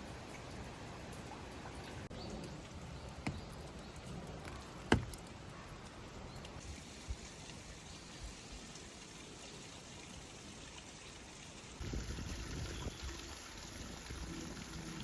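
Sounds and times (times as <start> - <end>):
quiet rain: 0.0 - 15.0.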